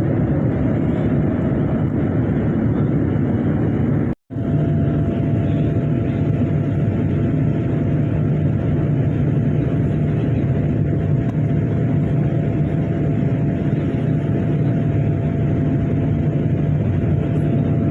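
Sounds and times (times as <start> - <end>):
aircraft cabin engine rumble: 0.0 - 17.9.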